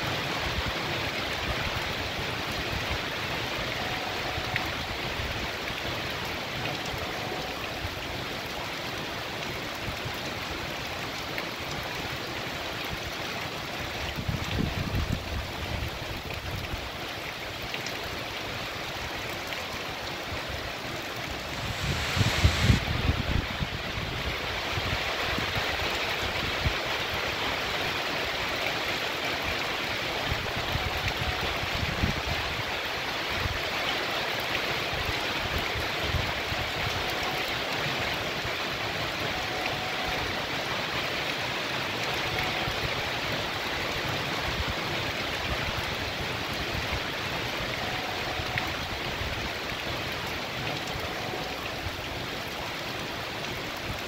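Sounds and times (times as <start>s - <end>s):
heavy rain on pavement: 0.0s - 54.0s
runoff water rushing into drain: 0.0s - 54.0s.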